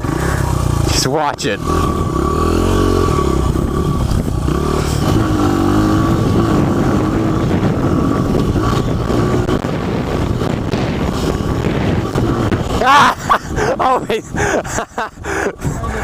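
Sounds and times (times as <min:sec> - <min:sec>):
dirt bike engine revving: 0:00.0 - 0:15.1.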